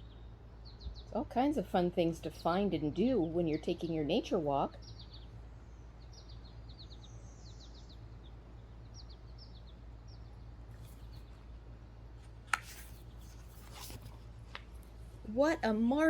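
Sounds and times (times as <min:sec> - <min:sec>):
low open air rumble: 0:00.0 - 0:16.0
small birds chirping: 0:00.0 - 0:16.0.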